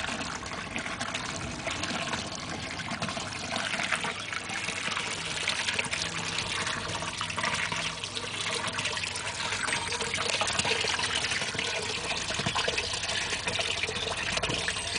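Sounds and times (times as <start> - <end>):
water trickling and splashing: 0.0 - 14.9.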